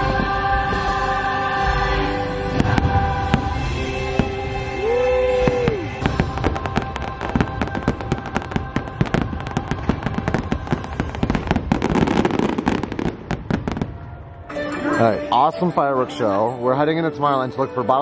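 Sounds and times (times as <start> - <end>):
fireworks bangs and crackling: 0.0 - 14.8
show music: 0.0 - 18.0.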